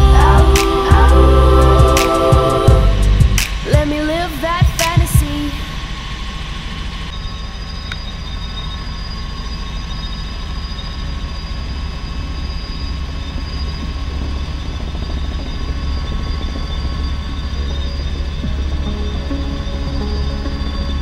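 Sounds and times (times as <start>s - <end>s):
high-pitched whine: 0.0s - 21.0s
helicopter rotor and engine drone: 3.7s - 21.0s.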